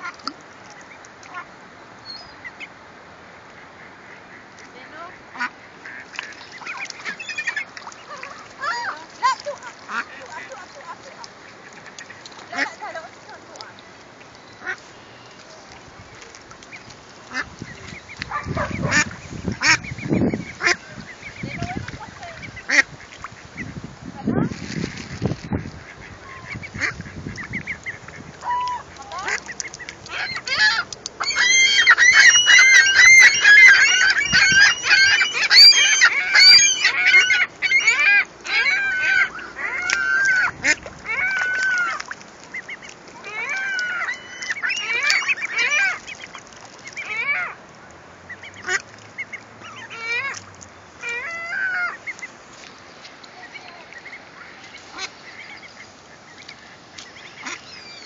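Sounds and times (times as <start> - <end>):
ducklings peeping: 4.3 - 24.5, 25.2 - 47.6, 48.3 - 58.0.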